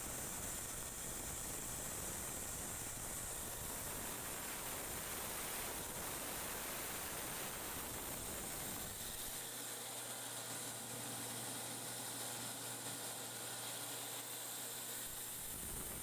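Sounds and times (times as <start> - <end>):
rice huller hissing: 0.0 - 16.0.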